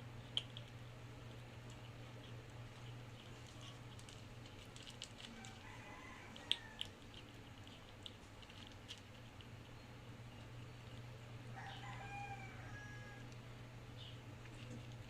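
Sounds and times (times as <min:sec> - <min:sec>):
small pet chewing: 0:00.0 - 0:15.0
steady low hum: 0:00.0 - 0:15.0.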